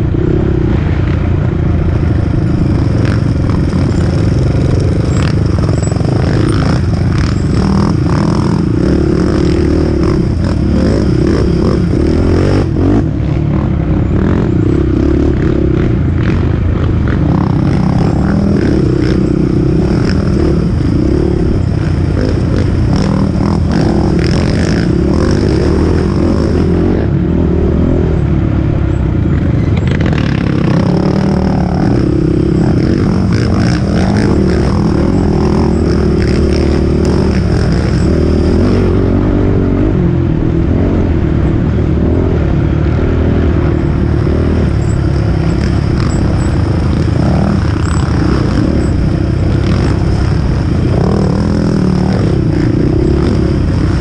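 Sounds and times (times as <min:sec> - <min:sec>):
quad engine revving: 0:02.0 - 0:28.3, 0:29.4 - 0:54.0.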